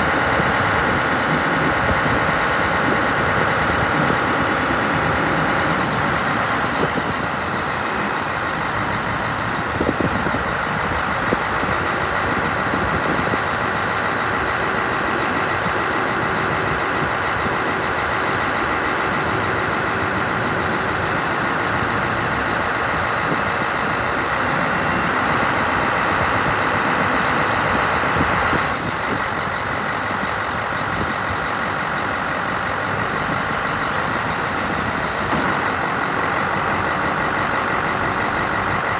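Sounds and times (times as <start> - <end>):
diesel truck engine running: 0.0 - 38.9
hydraulic whine: 1.3 - 38.6.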